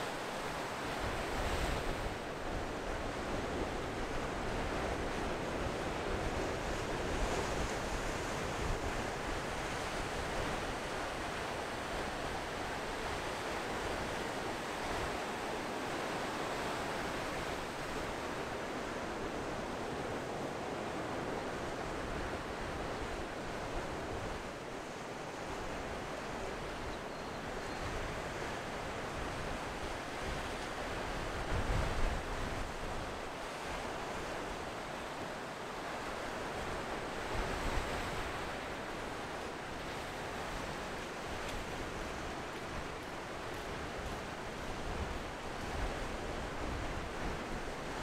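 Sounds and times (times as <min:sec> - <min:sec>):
waves breaking on beach: 0:00.0 - 0:48.0.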